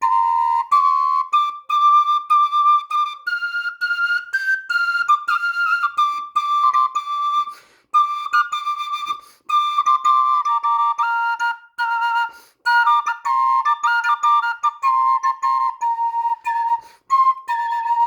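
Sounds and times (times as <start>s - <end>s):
bird flutes whistling: 0.0s - 18.0s.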